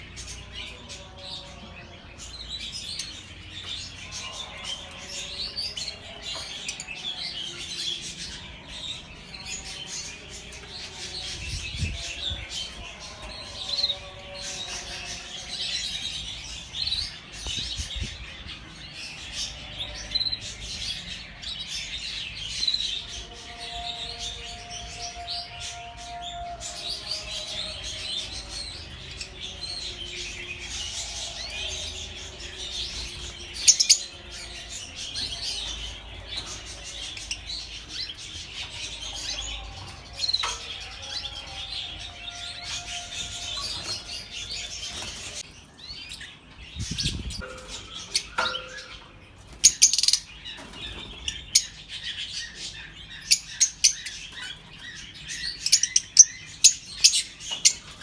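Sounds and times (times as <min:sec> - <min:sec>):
lovebirds chattering and chirping: 0:00.0 - 0:58.0.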